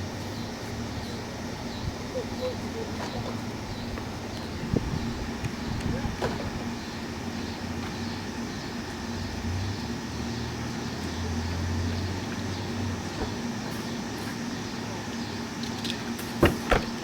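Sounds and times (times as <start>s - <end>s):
street noise: 0.0s - 17.0s
vehicle engine humming: 0.0s - 17.0s.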